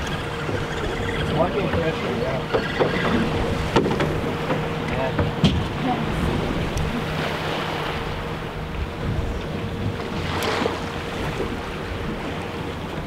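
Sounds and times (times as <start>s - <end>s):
sea water splashing: 0.0s - 13.0s
wind buffeting microphone: 0.0s - 13.0s.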